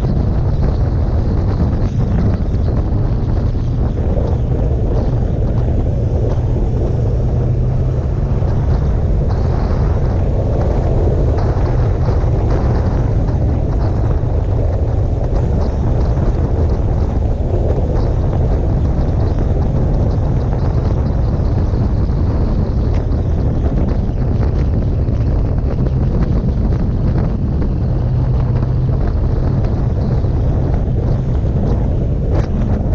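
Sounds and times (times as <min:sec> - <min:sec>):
motorcycle and road rumble: 0:00.0 - 0:32.9
wind noise on microphone: 0:00.0 - 0:32.9.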